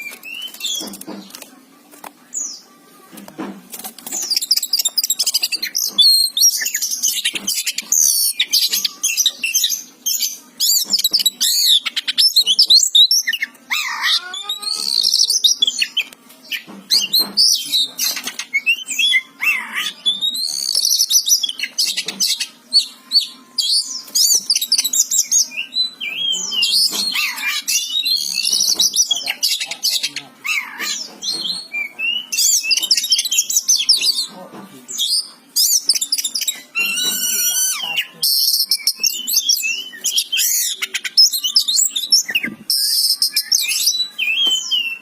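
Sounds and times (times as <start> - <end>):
bird singing: 4.1 - 45.0.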